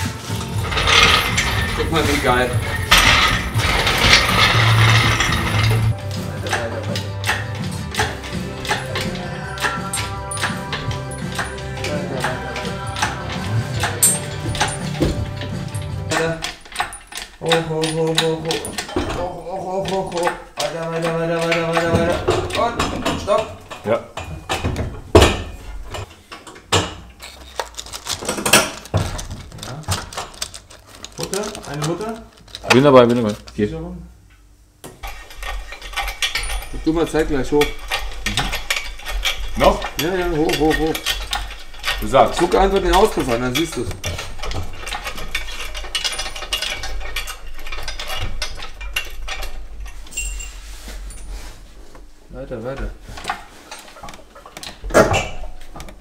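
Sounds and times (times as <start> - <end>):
metal tools clanking: 0.0 - 33.6, 35.0 - 51.7, 52.5 - 56.0.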